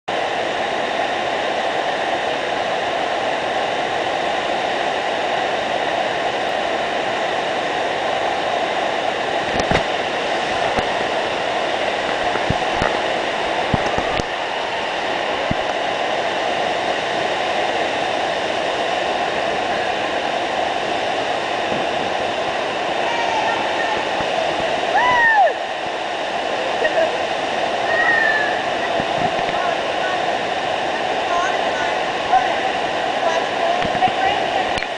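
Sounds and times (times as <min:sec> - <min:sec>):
loud roar of rushing water: 0:00.1 - 0:34.9.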